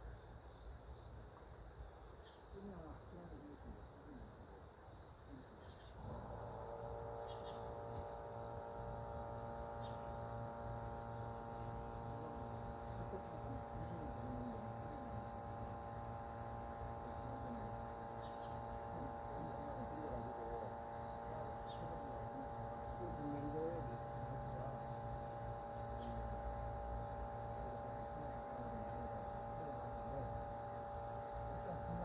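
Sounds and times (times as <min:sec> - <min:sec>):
crickets chirring: 0:00.0 - 0:32.0
machine hum: 0:00.0 - 0:32.0.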